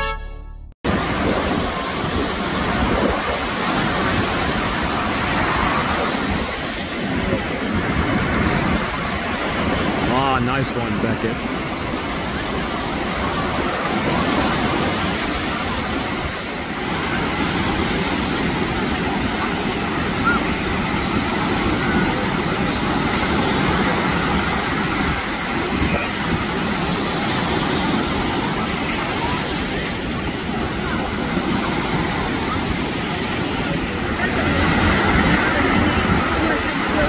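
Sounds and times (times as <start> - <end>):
ocean surf breaking: 0.8 - 37.0
wind buffeting microphone: 0.9 - 10.1, 11.3 - 37.0.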